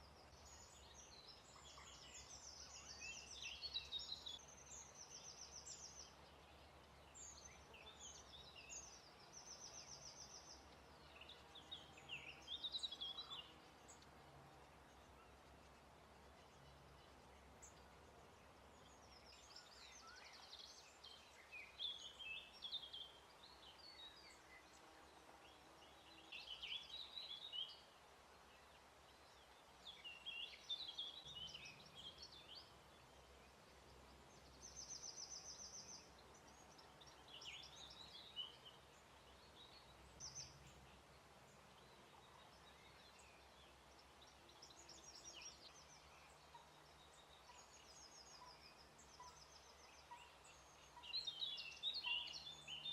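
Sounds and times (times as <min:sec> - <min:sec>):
faint songbirds singing: 0:00.0 - 0:52.9.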